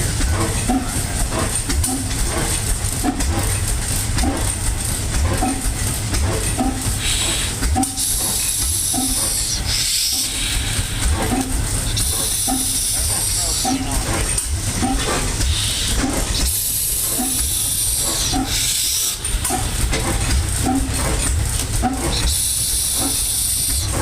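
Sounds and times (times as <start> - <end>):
gas engine chugging: 0.0 - 24.0
hiss: 0.3 - 24.0.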